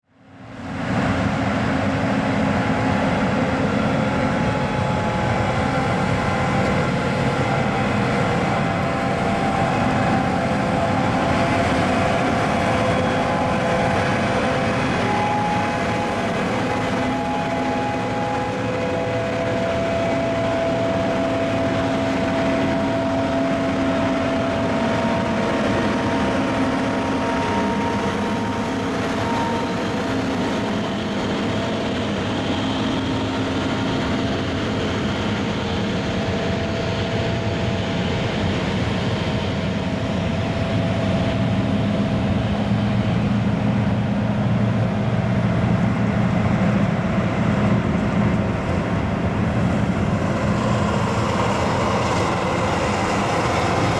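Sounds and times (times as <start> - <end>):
combine harvester drone: 0.1 - 53.9
high machinery whines: 0.4 - 53.9.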